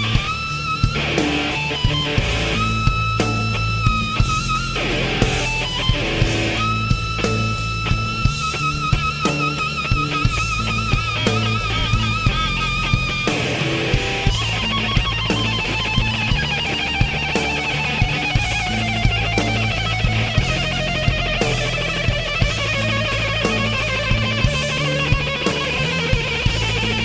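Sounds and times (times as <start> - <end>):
bass notes: 0.0 - 27.0
electric guitar lead: 0.0 - 27.0
steady drum beat: 0.0 - 27.0.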